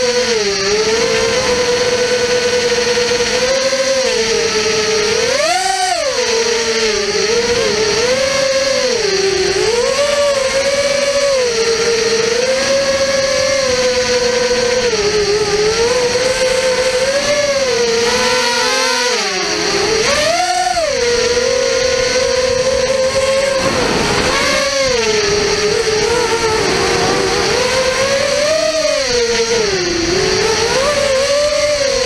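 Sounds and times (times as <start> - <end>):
quadcopter motors whining: 0.0 - 32.0.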